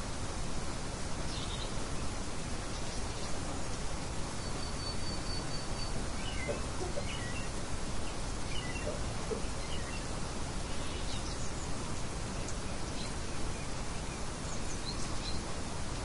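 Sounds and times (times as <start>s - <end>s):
steady rain hiss: 0.0s - 16.0s
small birds chirping: 1.2s - 15.7s.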